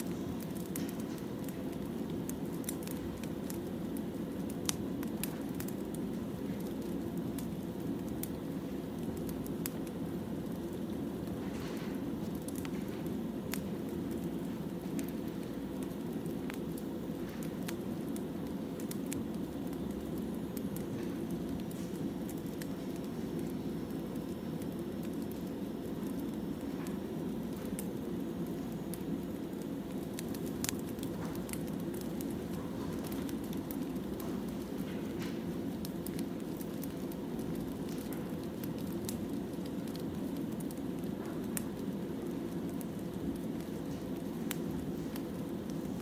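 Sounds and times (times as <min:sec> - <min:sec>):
low rush of fire: 0:00.0 - 0:46.0
wood fire crackling and popping: 0:00.0 - 0:46.0.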